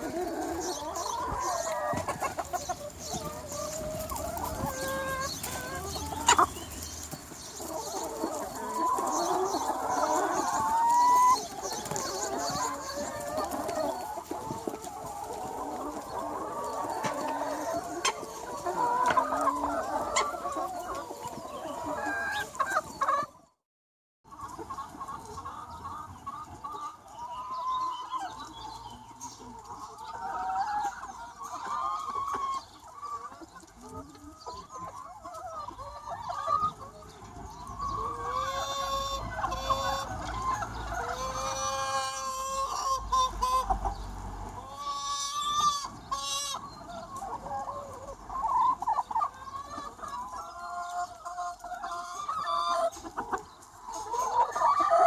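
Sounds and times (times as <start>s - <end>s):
chickens clucking: 0.0s - 23.6s, 24.2s - 55.0s.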